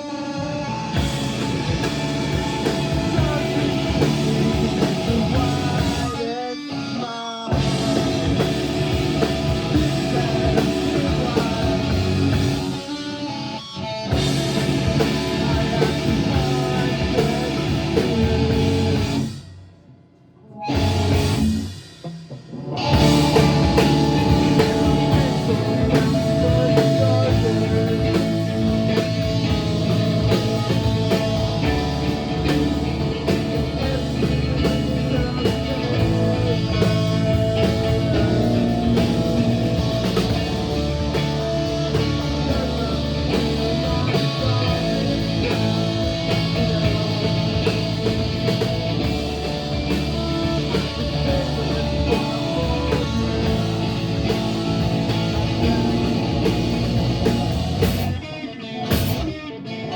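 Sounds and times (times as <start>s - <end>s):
bass guitar: 0.0s - 19.6s, 20.6s - 59.9s
electric guitar: 0.0s - 59.9s
drum kit: 0.7s - 6.3s, 7.5s - 13.0s, 14.1s - 19.9s, 20.6s - 59.4s.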